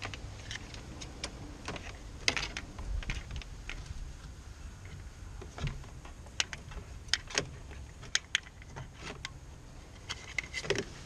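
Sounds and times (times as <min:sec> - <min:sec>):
sharp clicks and light rattles: 0:00.0 - 0:10.9.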